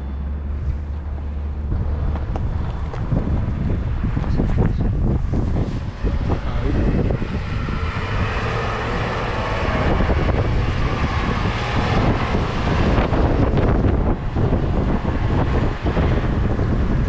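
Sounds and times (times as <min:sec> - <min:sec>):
vehicle passing: 0:00.0 - 0:17.0
wind buffeting microphone: 0:00.1 - 0:17.0.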